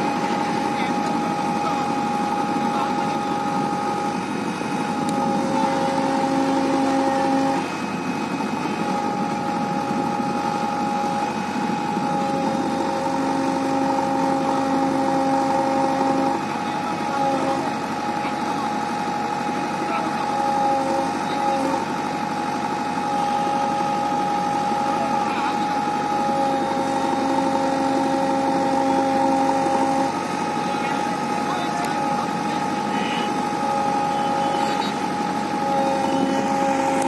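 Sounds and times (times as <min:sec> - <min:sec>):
diesel engine running: 0:00.0 - 0:37.0
hydraulic whine: 0:00.0 - 0:37.0.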